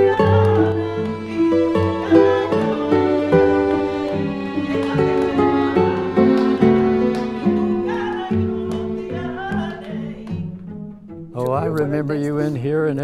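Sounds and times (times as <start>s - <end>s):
guitar music: 0.0s - 13.0s
held notes: 0.0s - 13.0s.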